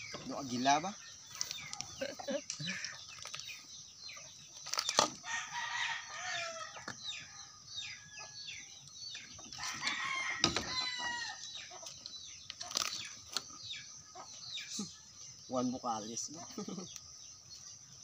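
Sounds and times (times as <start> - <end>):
chickens calling: 0.0 - 18.0.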